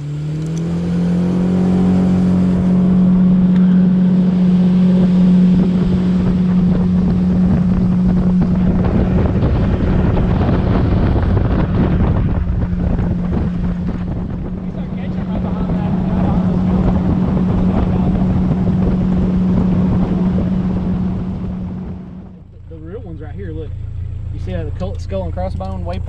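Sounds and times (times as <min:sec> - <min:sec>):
wind buffeting microphone: 0:00.0 - 0:23.4
water rushing past hull: 0:00.0 - 0:25.5
boat engine at high throttle: 0:00.0 - 0:26.0.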